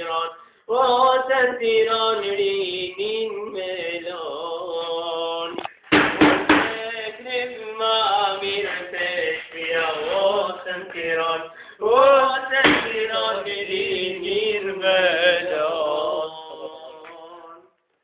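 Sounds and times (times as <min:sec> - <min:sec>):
man singing folk song: 0:00.0 - 0:05.7, 0:06.4 - 0:17.7.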